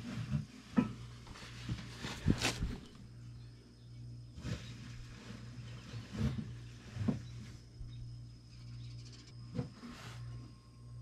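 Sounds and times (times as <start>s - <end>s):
fridge compressor humming: 0.0s - 11.0s.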